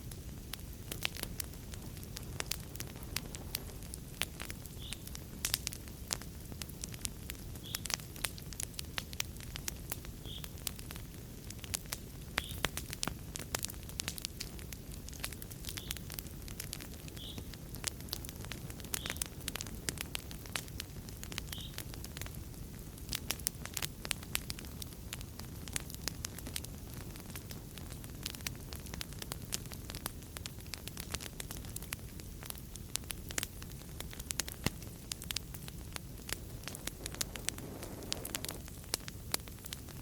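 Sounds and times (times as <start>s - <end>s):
low hiss of flames: 0.0s - 40.0s
sharp pops and snaps of fire: 0.0s - 40.0s
wood fire crackling: 0.0s - 40.0s.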